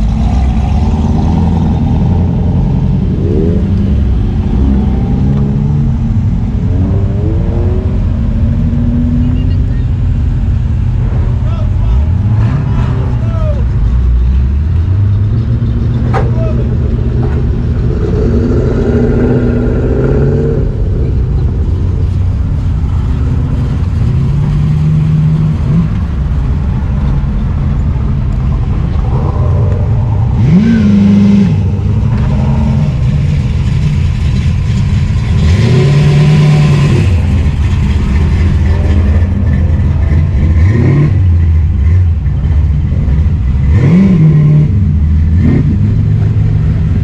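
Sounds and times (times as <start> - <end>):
cars driving past: 0.0 - 47.0
engines revving: 0.0 - 47.0.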